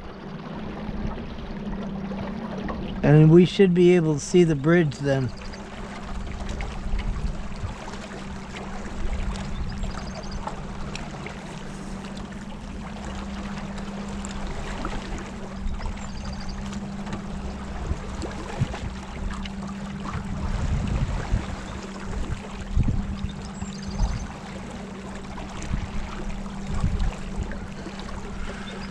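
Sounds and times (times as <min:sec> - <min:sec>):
low motor hum: 0:00.0 - 0:28.9
water splashing along boat: 0:00.0 - 0:28.9.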